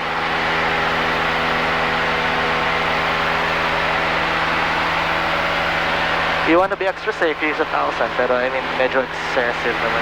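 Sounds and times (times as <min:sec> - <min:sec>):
airplane engine drone in cabin: 0:00.0 - 0:10.0.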